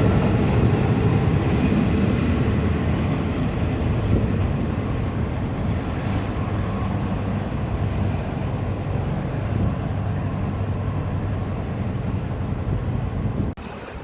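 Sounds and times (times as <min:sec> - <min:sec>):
diesel train engine rumbling: 0:00.0 - 0:13.6
wind on microphone: 0:00.0 - 0:14.0.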